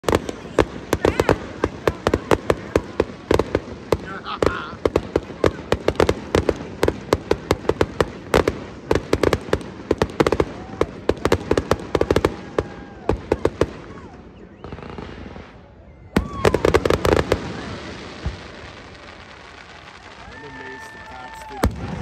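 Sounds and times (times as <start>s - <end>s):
fireworks crackling pops: 0.0s - 22.0s.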